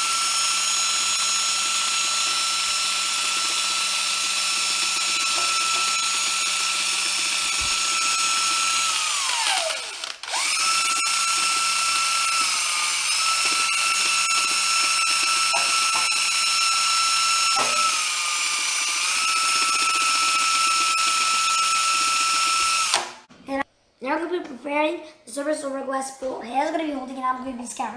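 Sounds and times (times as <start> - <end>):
power drill whining: 0.0 - 23.3.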